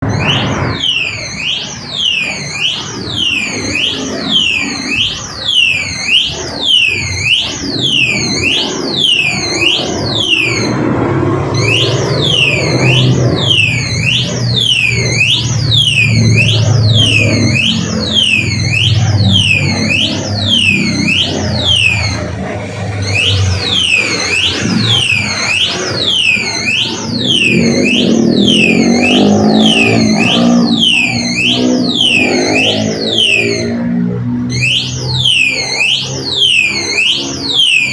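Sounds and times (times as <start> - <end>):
low street rumble: 0.0 - 37.9
motorcycle alarm swooping tone: 0.0 - 37.9.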